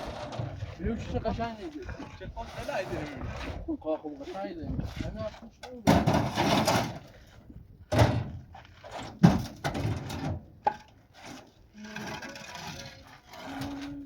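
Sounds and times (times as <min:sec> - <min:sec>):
steady scraping of cement: 0:00.0 - 0:07.8, 0:08.4 - 0:14.0.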